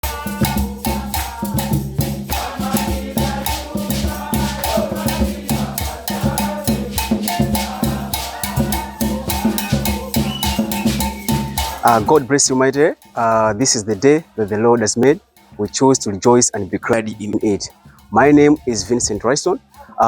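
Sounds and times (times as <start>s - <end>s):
intro music with drums and shakers: 0.0s - 20.0s.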